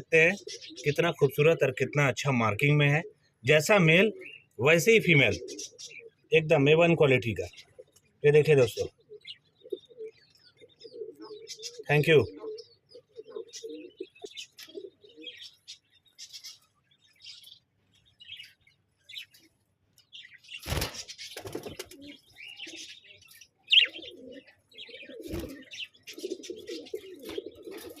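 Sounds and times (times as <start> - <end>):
budgerigars chirping: 0.0 - 28.0.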